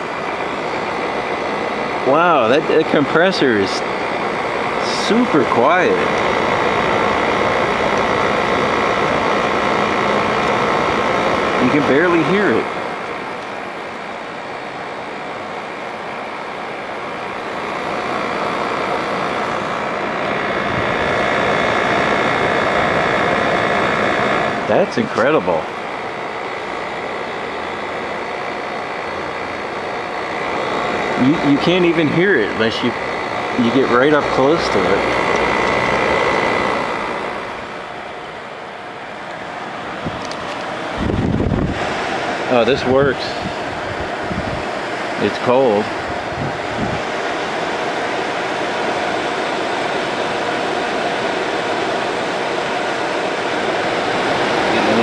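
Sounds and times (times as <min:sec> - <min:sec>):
air conditioner fan rushing: 0:00.0 - 0:55.0
faint high whine: 0:00.0 - 0:55.0.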